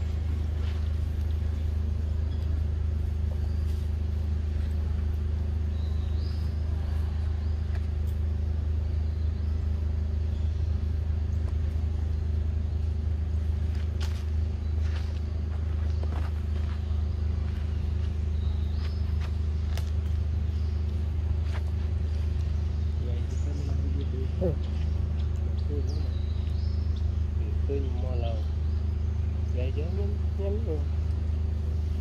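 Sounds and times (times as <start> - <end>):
low motor hum: 0.0 - 32.0.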